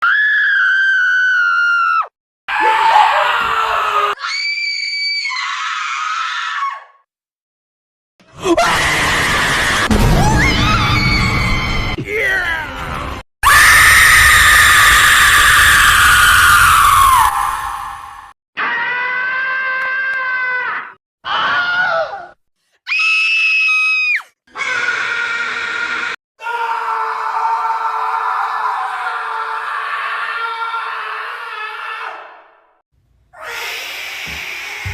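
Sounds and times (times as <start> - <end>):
screaming sound effects: 0.0 - 6.9, 8.4 - 22.1, 22.9 - 32.3.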